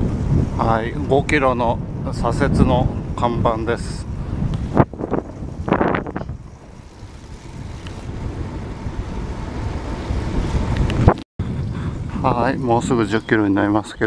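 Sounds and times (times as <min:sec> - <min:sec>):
bicycle tyre rumble on tarmac: 0:00.0 - 0:12.8
wind buffeting microphone: 0:00.0 - 0:14.0.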